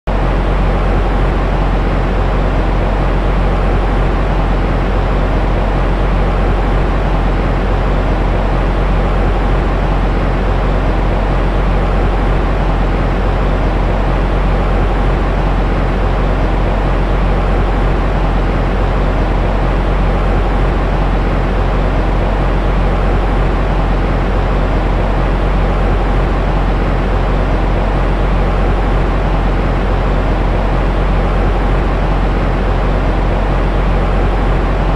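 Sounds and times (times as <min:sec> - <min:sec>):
steady low white noise: 0:00.1 - 0:34.9.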